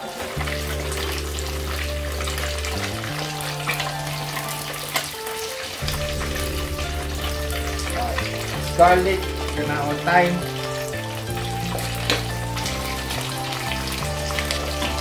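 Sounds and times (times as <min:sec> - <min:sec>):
background music with low notes: 0:00.0 - 0:15.0.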